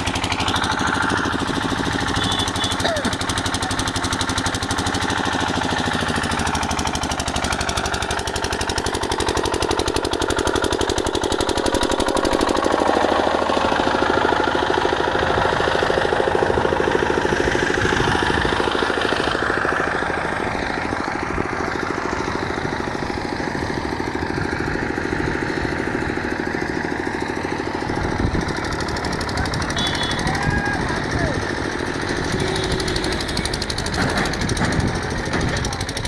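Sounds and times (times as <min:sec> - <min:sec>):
power tool rattling: 0:00.0 - 0:19.8, 0:23.0 - 0:30.2, 0:31.4 - 0:36.0.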